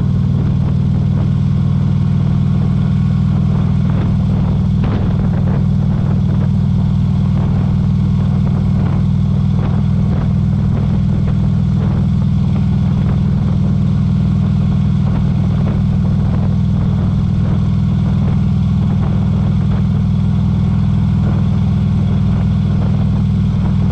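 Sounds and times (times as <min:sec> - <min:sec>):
motorcycle engine droning: 0:00.0 - 0:23.9.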